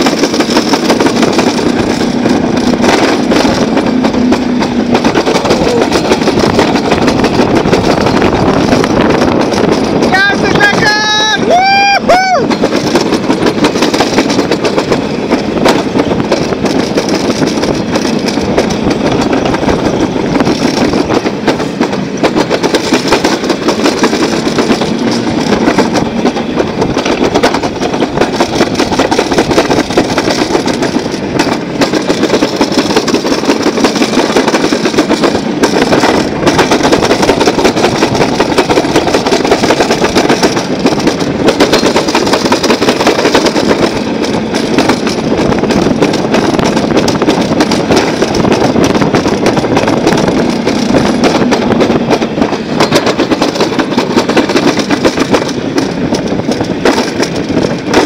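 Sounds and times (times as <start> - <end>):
sled rattling in metal track: 0.0 - 58.0.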